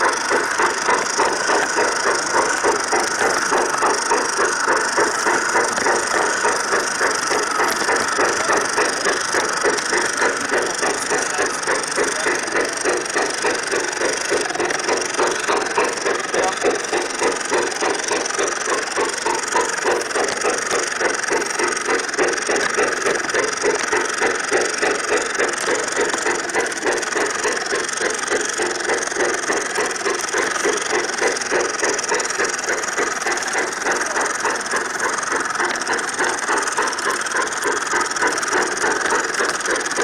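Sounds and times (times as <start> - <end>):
model train running: 0.0 - 40.0.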